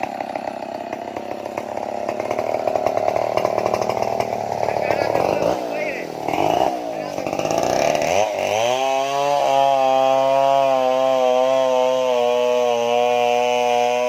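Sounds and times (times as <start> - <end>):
chainsaw engine at full throttle: 0.0 - 14.0.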